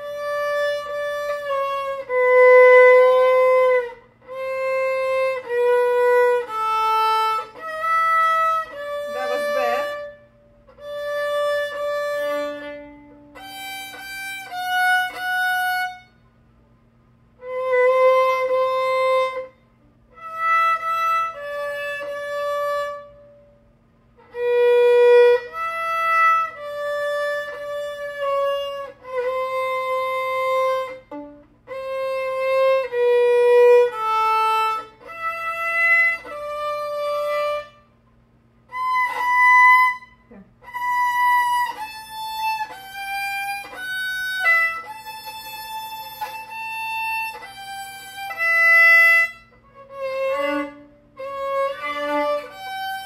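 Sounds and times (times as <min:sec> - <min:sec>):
violin playing slow bowed notes: 0:00.0 - 0:16.4, 0:17.3 - 0:38.0, 0:38.6 - 0:53.0.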